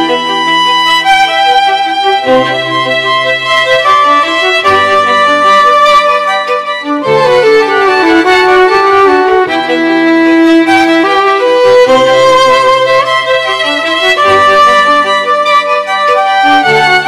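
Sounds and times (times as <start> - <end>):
lower accompaniment: 0.0 - 17.0
violin melody: 0.0 - 17.0.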